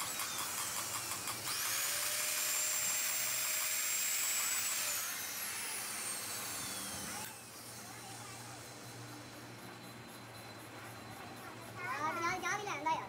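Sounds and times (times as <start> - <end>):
rotary power tool whine: 0.0 - 12.7.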